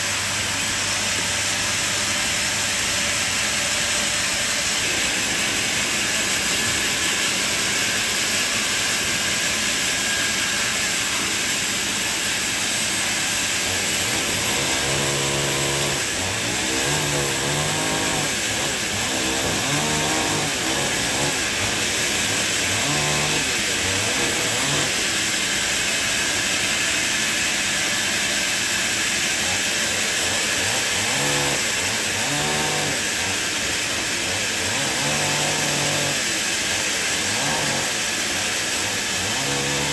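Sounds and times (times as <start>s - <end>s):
saw blade cutting log: 0.0s - 39.9s.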